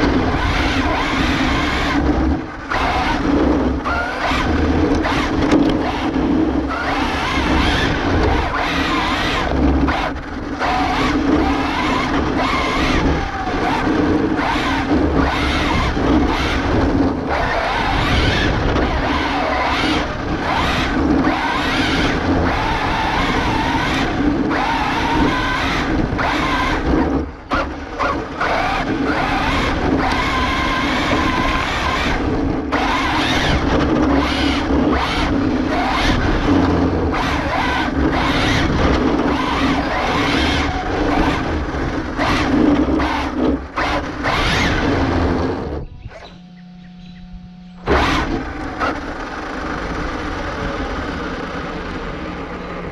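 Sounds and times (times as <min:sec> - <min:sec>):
rc truck motor whining: 0:00.0 - 0:52.9
tyre and road noise: 0:00.0 - 0:52.9.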